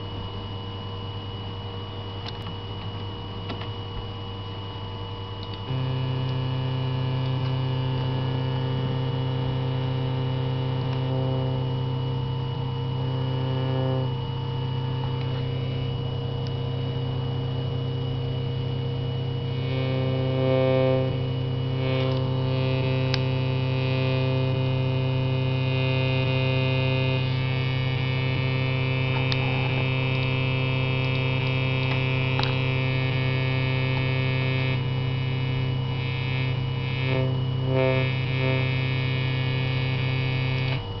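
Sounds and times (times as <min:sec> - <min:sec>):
buzzing electronic drone: 0:04.3 - 0:41.0.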